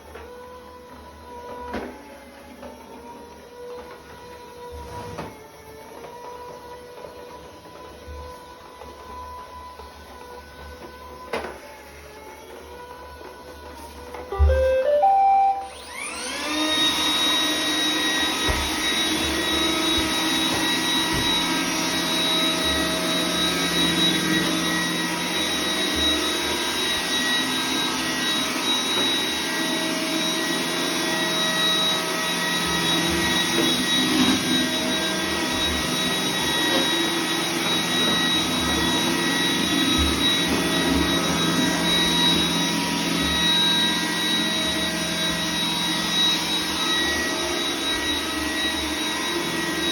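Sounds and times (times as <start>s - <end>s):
robot vacuum running: 0.0s - 49.9s.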